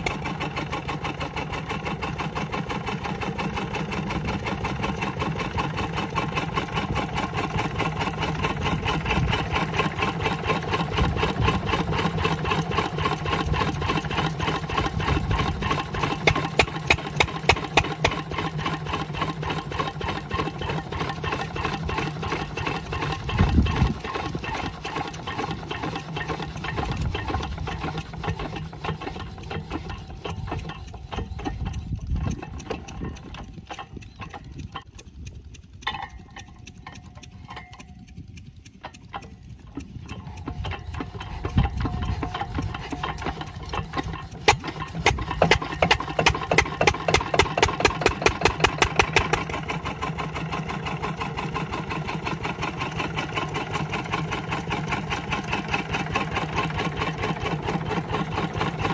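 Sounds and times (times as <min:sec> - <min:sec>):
diesel engine running unevenly: 0:00.0 - 0:58.9.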